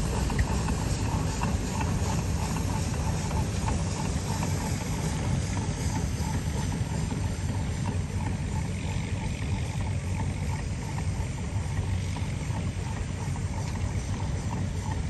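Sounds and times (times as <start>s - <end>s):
steam engine running: 0.0s - 15.0s.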